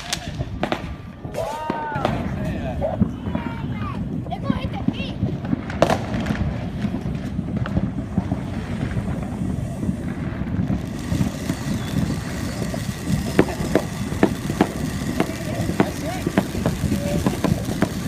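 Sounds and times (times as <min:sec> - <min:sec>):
skateboard wheels rolling on pavement: 0:00.0 - 0:18.0.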